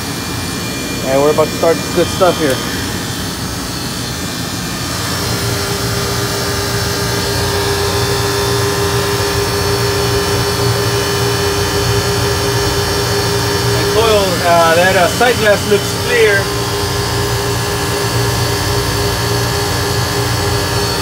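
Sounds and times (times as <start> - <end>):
compressor hum: 0.0 - 21.0
condensing unit drone: 0.0 - 21.0.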